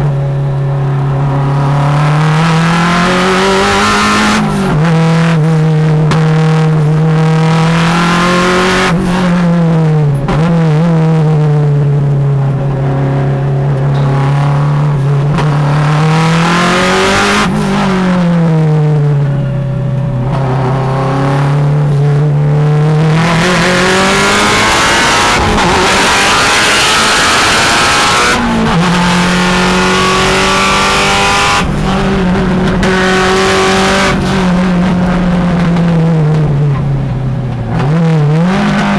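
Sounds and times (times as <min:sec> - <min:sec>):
race car engine from inside cabin: 0:00.0 - 0:38.9
road and wind noise: 0:00.0 - 0:38.9.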